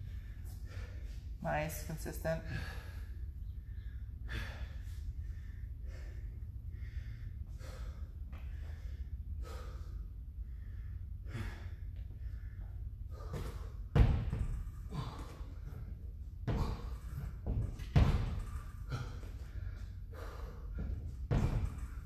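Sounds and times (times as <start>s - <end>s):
steady low hum: 0.0s - 22.0s
man gasping for breath: 2.5s - 13.8s, 14.7s - 17.6s, 18.4s - 21.9s.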